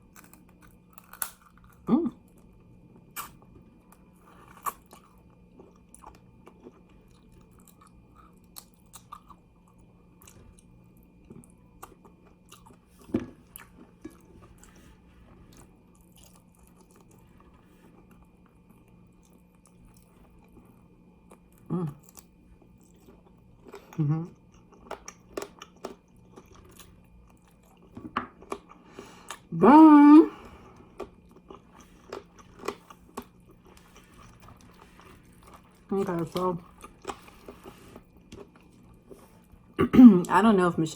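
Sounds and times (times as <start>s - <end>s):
chewing and crunching chicken wings: 0.0s - 29.5s, 30.3s - 39.8s.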